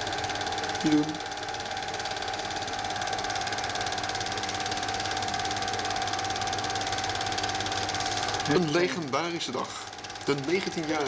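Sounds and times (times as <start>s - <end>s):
film projector clatter: 0.0s - 11.0s
motor whine: 0.0s - 11.0s.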